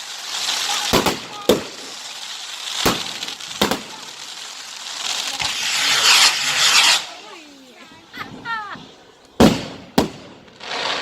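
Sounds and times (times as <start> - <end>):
firework bangs: 0.0 - 7.5, 9.4 - 11.0
fireworks hissing crackle: 0.0 - 11.0.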